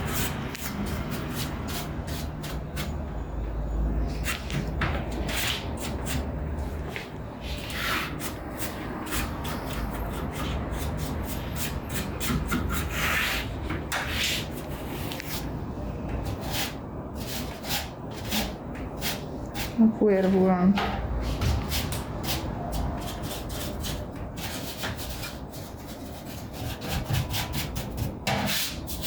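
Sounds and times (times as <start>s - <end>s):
brushing and scrubbing: 0.0s - 3.1s, 4.1s - 29.0s.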